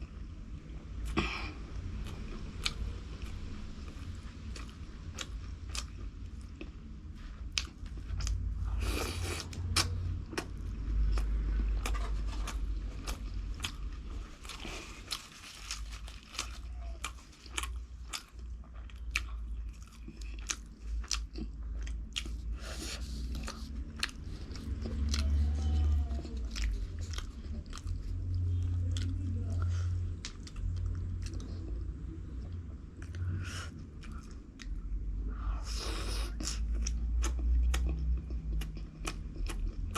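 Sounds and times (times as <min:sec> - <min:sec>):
person chewing crunchy food: 0:01.0 - 0:39.9.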